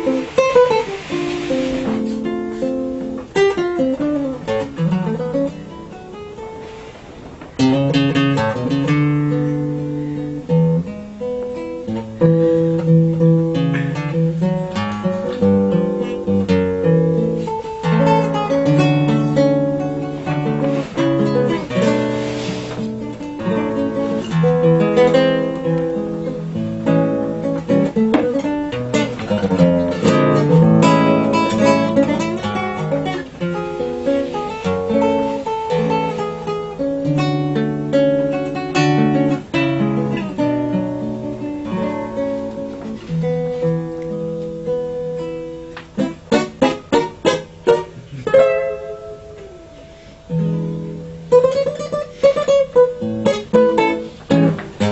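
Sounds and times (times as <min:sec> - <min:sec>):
classical acoustic guitar playing: 0:00.0 - 0:54.9.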